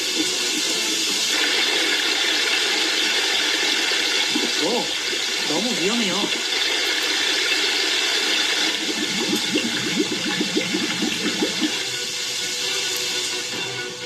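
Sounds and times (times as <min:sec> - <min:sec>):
rushing hissing water: 0:00.0 - 0:14.0.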